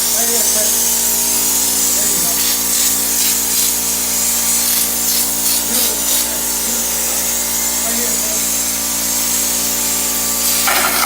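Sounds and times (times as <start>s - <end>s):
power tool humming: 0.0s - 11.0s.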